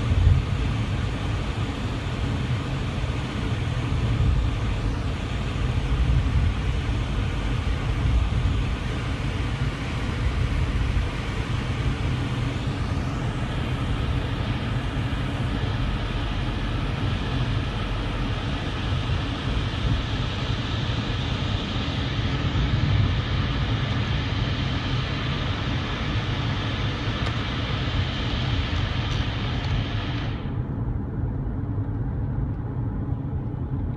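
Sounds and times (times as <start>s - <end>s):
vehicle low rumble: 0.0s - 33.9s.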